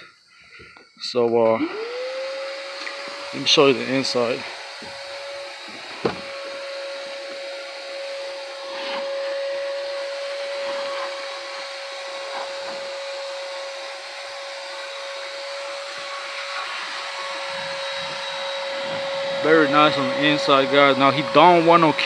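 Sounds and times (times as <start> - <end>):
vacuum cleaner running: 1.4 - 22.0.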